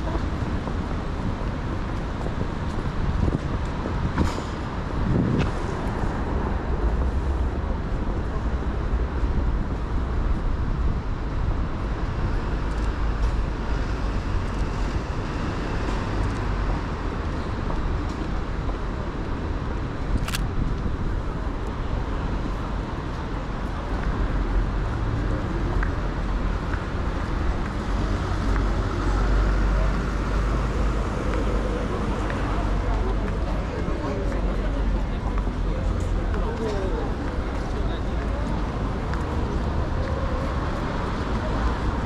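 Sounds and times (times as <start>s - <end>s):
passing cars rumbling: 0.0s - 42.0s.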